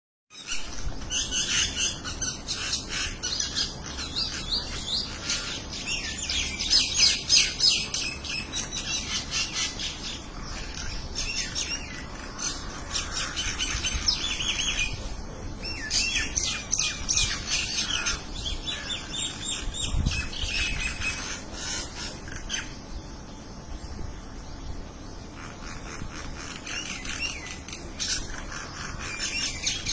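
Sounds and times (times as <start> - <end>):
birds chirping and twittering: 0.3 - 29.9.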